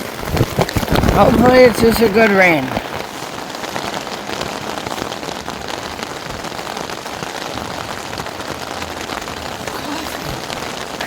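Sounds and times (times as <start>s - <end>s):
heavy rain on tent fabric: 0.0s - 11.0s.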